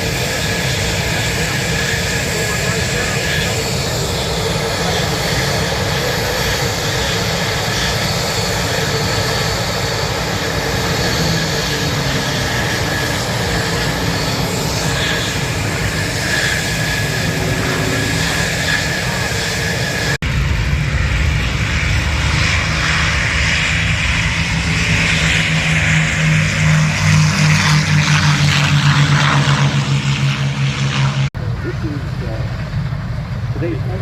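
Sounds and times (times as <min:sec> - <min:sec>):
aircraft engine running: 0:00.0 - 0:34.0.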